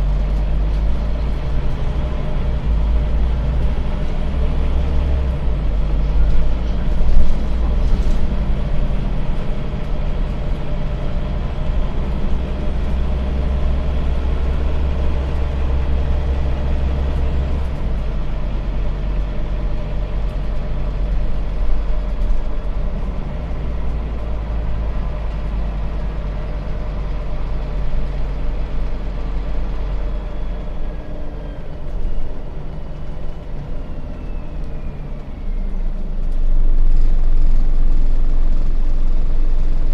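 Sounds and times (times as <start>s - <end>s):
bus engine drone from inside: 0.0s - 39.9s.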